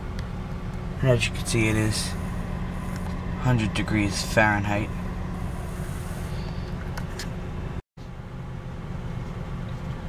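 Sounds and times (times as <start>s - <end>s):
air-conditioning fan blowing: 0.0s - 10.0s
car engine idling: 0.0s - 10.0s.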